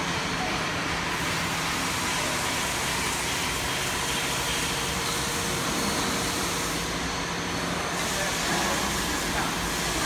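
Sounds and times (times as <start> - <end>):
industrial machinery hiss: 1.0 - 10.0.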